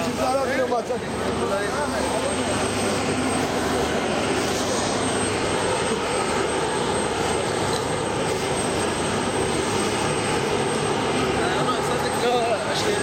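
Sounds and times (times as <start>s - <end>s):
busy public square noise: 0.0s - 13.0s.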